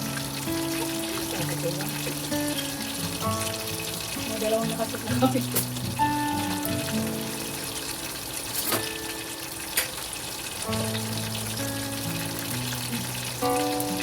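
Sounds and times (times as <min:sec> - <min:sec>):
background music: 0:00.0 - 0:09.6, 0:10.7 - 0:14.0
food sizzling in oil: 0:00.0 - 0:14.0.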